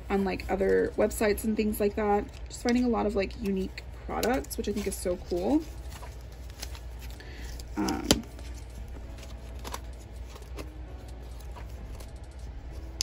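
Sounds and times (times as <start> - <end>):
plastic packaging rustling: 0.0 - 13.0.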